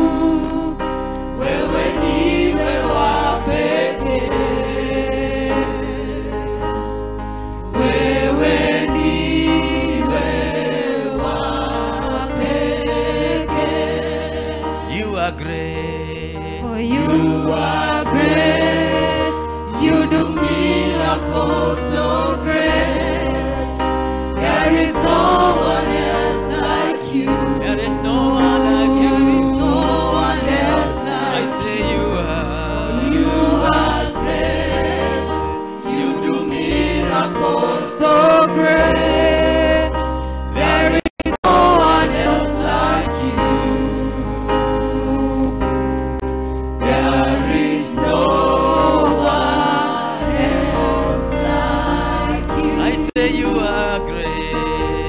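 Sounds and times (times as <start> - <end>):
choir singing gospel song: 0.0 - 15.8, 16.9 - 55.0
band with low bass line: 0.0 - 55.0.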